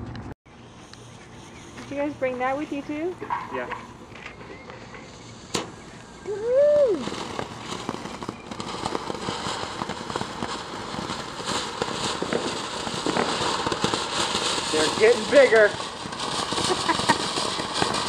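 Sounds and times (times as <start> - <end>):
firework fountain hissing and crackling: 0.5 - 18.0.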